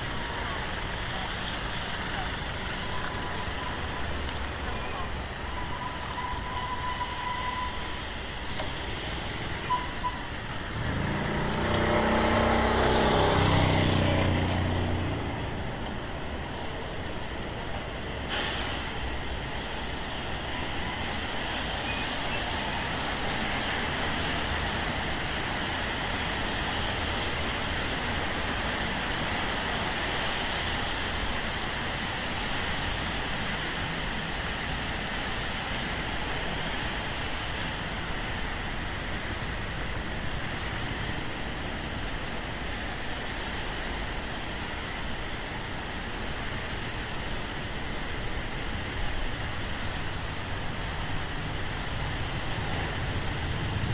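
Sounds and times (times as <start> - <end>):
steady rain: 0.0 - 53.9
traffic hissing on wet streets: 0.0 - 53.9.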